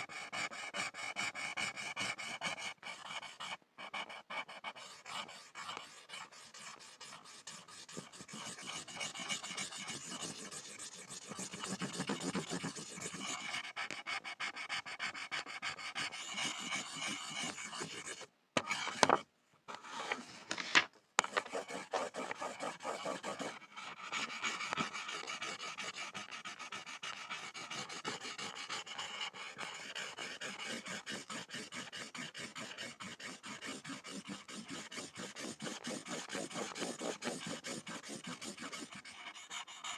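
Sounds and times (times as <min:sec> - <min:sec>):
pencil scribbling on a board: 0:00.0 - 0:20.6, 0:21.2 - 0:39.9.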